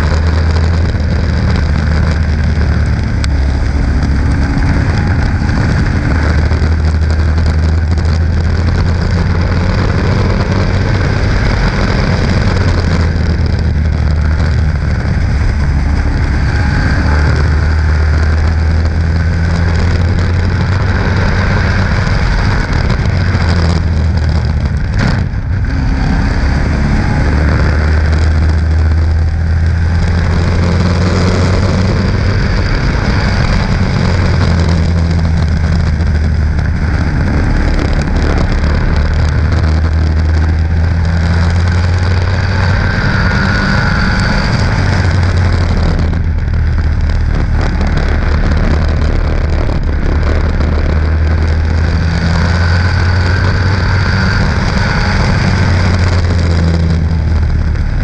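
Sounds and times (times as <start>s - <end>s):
race car engine droning: 0.0s - 58.0s
wind noise: 0.0s - 58.0s.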